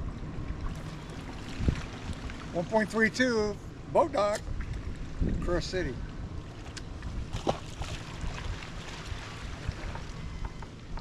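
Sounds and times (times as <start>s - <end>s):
wind rumbling on microphone: 0.0s - 2.9s, 3.8s - 11.0s
water lapping around boat: 0.0s - 11.0s.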